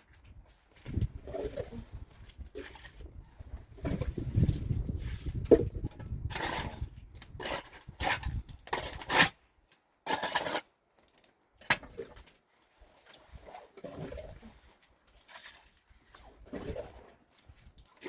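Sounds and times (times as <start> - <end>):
scraping strokes with light knocks: 0.0 - 11.0, 11.6 - 18.0.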